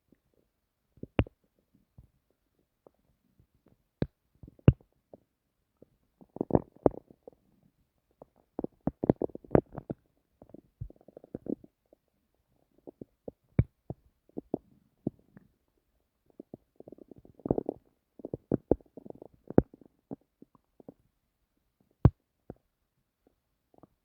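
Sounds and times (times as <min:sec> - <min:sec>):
stomach gurgling and rumbling: 0:00.3 - 0:21.2, 0:21.8 - 0:24.0.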